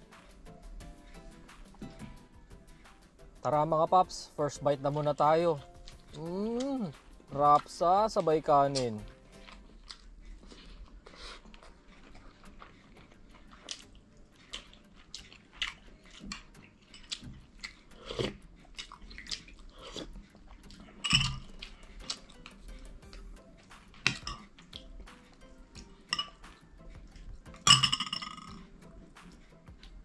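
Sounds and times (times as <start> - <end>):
person chewing food: 0.0 - 3.4, 4.9 - 30.0.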